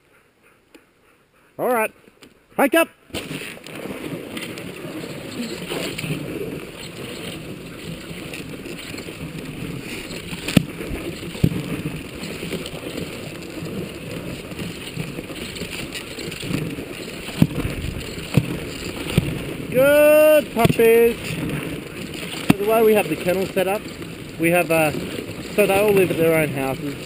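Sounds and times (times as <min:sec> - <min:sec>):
sled runners hissing over snow: 0:00.0 - 0:27.0
sled jolting knocks: 0:03.1 - 0:27.0.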